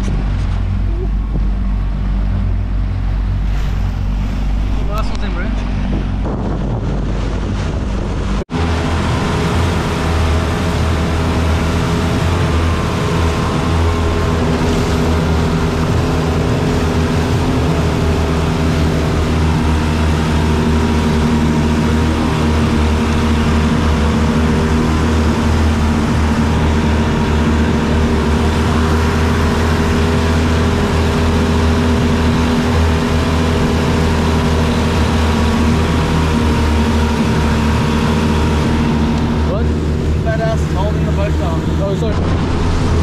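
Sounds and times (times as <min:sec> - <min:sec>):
churned water rushing: 0:00.0 - 0:43.0
outboard motors running: 0:00.0 - 0:43.0.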